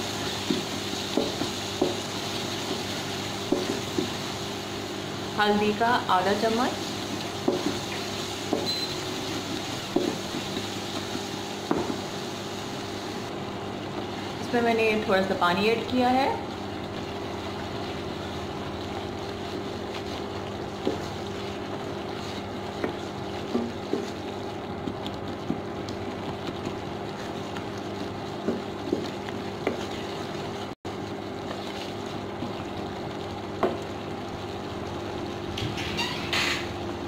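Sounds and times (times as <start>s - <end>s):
induction cooktop humming: 0.0s - 37.0s.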